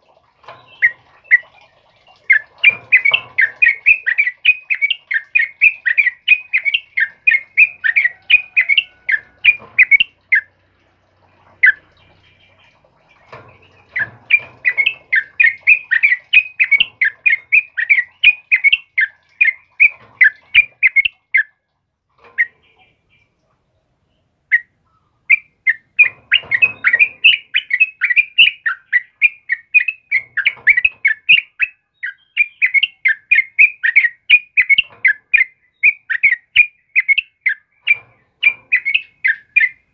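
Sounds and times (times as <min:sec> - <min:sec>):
bird chattering song: 0:00.5 - 0:10.5, 0:11.6 - 0:21.5, 0:22.4 - 0:23.4, 0:24.2 - 0:39.9.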